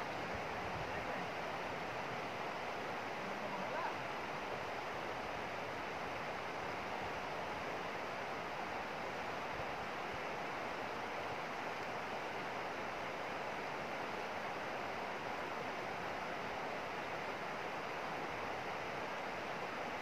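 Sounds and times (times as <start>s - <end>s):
stony river rushing: 0.0s - 20.0s.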